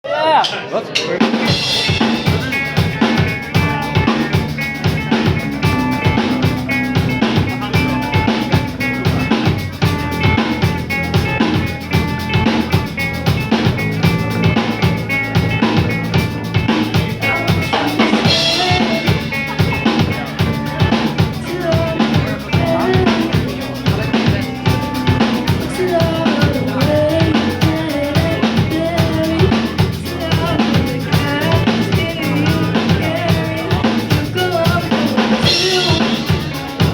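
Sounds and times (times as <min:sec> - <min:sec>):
live band playing: 0:01.2 - 0:36.9.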